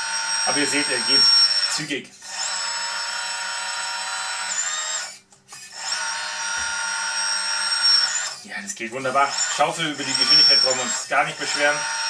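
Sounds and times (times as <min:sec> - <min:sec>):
electric hydraulic pump whining: 0:00.0 - 0:12.0.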